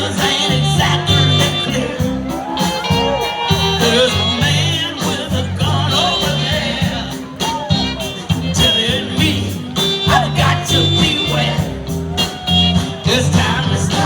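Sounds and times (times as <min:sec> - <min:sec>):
guitar: 0:00.0 - 0:14.0
person singing: 0:00.0 - 0:14.0
repeating bass line: 0:00.0 - 0:14.0.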